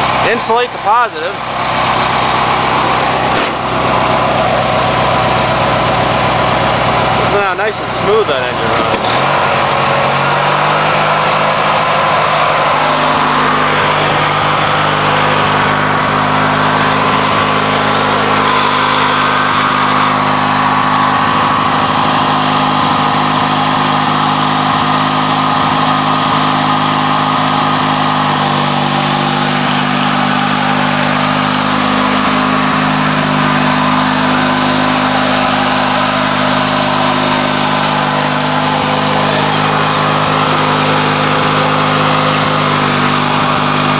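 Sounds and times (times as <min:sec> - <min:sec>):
lawn tractor engine running: 0:00.0 - 0:43.9.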